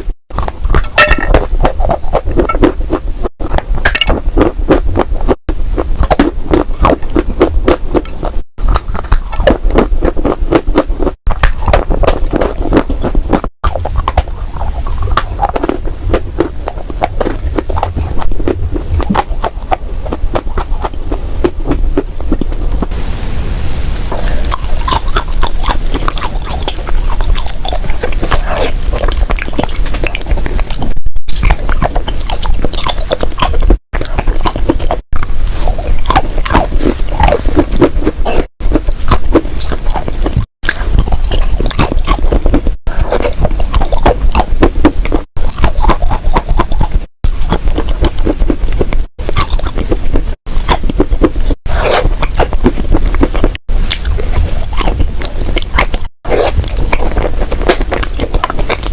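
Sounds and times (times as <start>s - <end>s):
crunchy clay being chewed: 0.0s - 23.0s, 24.1s - 58.9s.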